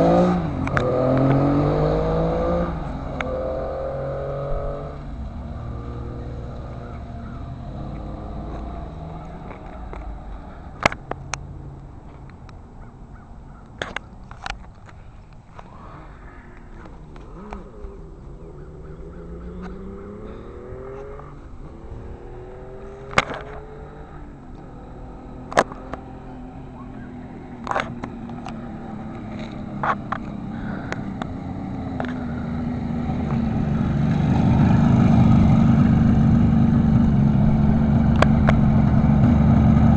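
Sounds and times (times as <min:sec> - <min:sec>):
motorcycle engine through gear changes: 0:00.0 - 0:11.3, 0:16.7 - 0:39.9.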